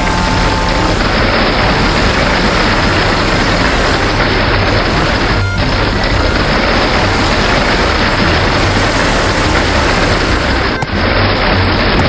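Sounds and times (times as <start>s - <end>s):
circular saw cutting wood: 0.0s - 12.0s.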